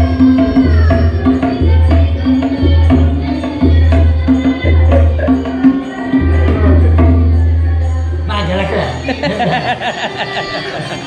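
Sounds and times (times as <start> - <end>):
tabla ringing strokes: 0.0 - 9.1.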